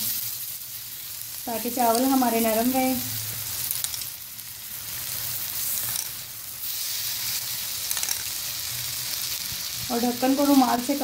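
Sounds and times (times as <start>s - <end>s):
rice pot sizzling: 0.0s - 11.0s.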